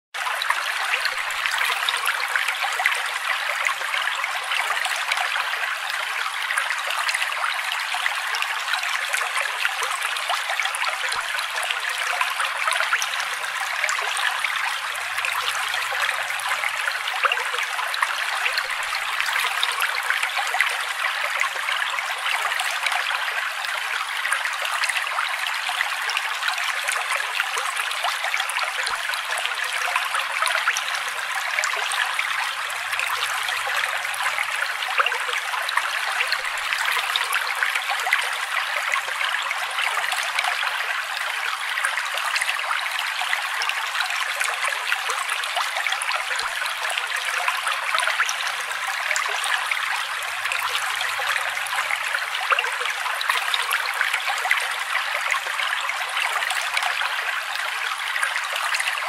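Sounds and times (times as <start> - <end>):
creek splashing over rocks: 0.2 - 59.0.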